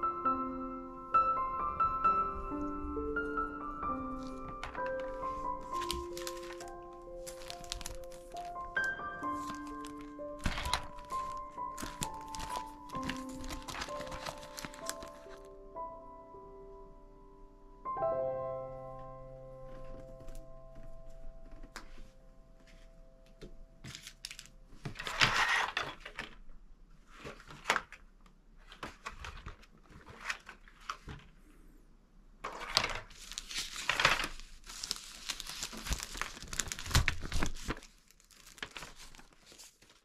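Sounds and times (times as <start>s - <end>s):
crinkling and rustling: 1.7s - 15.5s, 19.6s - 31.6s, 32.4s - 40.0s.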